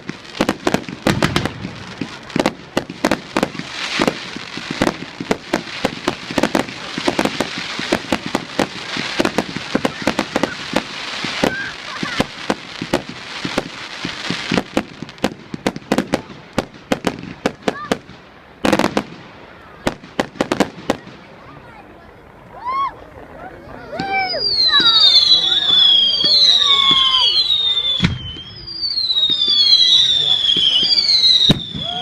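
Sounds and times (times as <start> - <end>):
fireworks bangs: 0.0 - 22.4, 23.9 - 32.0
fireworks crackling: 0.0 - 32.0.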